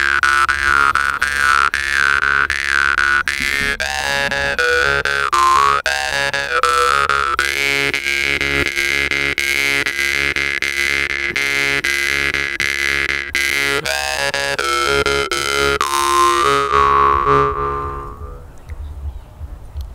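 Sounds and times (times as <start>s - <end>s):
jew's harp plucked: 0.0s - 18.6s.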